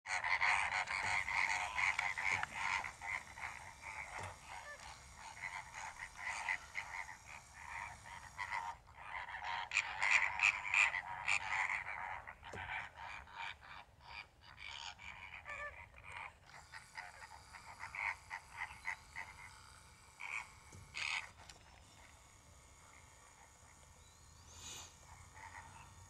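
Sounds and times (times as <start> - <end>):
flamingos chattering: 0.1 - 26.0.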